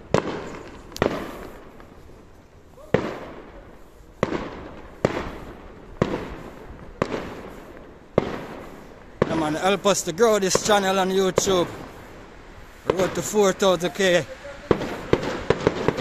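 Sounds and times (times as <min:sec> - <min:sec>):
fireworks bangs with echo: 0:00.0 - 0:16.0.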